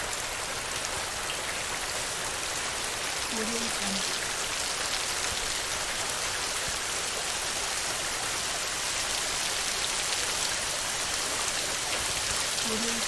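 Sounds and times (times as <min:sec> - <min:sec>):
heavy rain on a tin roof: 0:00.0 - 0:13.0.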